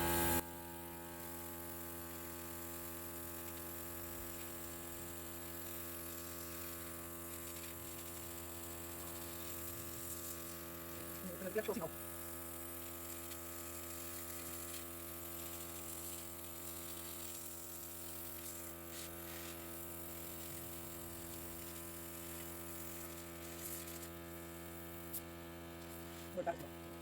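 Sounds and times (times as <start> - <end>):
air compressor humming: 0.0 - 27.0.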